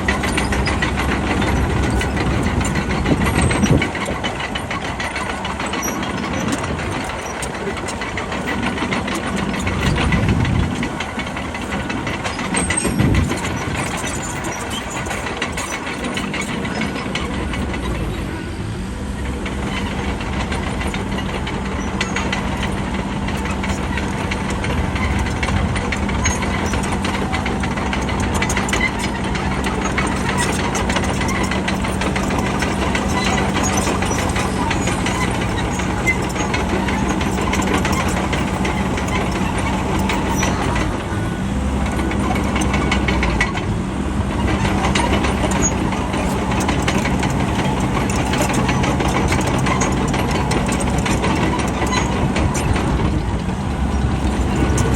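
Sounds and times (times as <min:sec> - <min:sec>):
bulldozer diesel engine running: 0:00.0 - 0:54.9
rattling clanking mechanical noise: 0:00.0 - 0:54.9.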